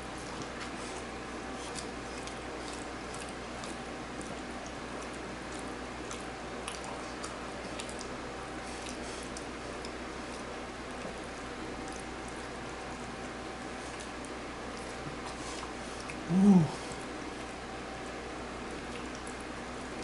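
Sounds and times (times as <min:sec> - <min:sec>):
person chewing wetly: 0:00.0 - 0:20.0.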